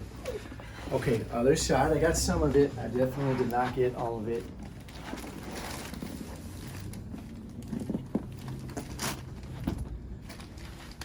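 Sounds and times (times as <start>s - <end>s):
rustling and shuffling: 0.0s - 11.0s.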